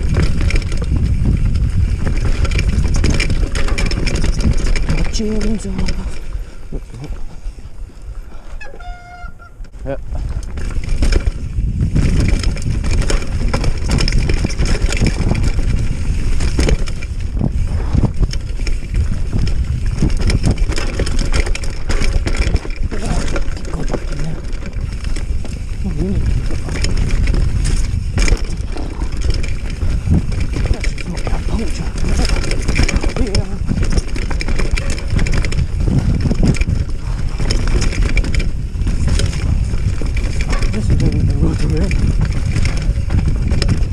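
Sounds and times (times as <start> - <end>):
tyres crunching over dirt: 0.0 - 8.4, 9.6 - 43.9
bike clattering over bumps: 0.0 - 43.9
wind rushing over microphone: 0.0 - 43.9.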